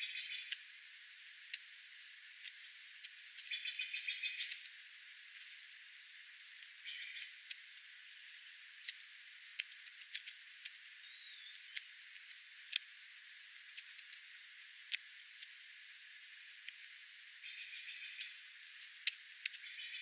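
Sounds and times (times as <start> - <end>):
birds pecking seed from gravel: 0.0 - 20.0.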